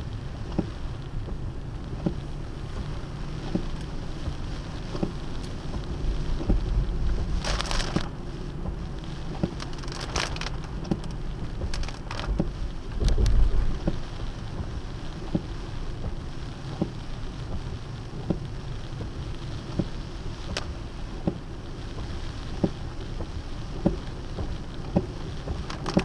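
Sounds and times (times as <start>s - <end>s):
in-cabin road and rain noise: 0.0s - 26.0s
low rumble: 0.0s - 26.0s
windshield wipers knocking: 0.4s - 26.0s.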